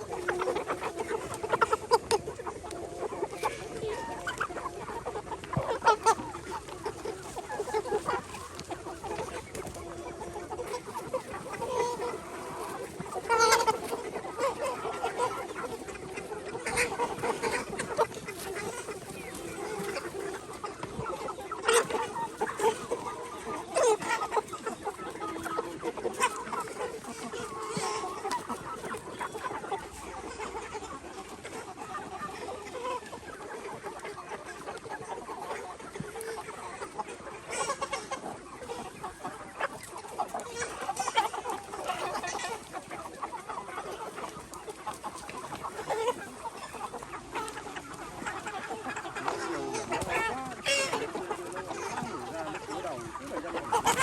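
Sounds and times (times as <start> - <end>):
hens clucking: 0.0 - 54.0
loud sharp hen calls: 0.0 - 54.0.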